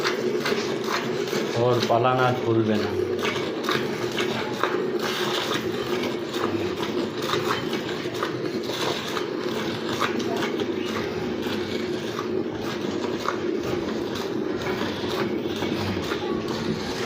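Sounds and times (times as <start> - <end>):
milk squirting into pail: 0.0 - 17.0.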